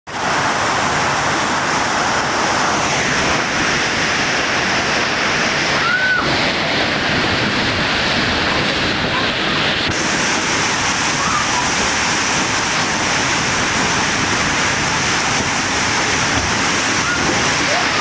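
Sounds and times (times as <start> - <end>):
heavy rain in strong wind: 0.1 - 18.0.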